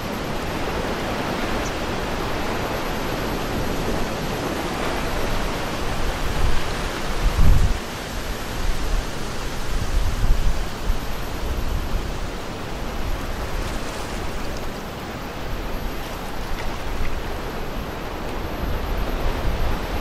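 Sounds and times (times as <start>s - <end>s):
small waves against breakwater: 0.0s - 20.0s
wind gusting on microphone: 0.0s - 20.0s.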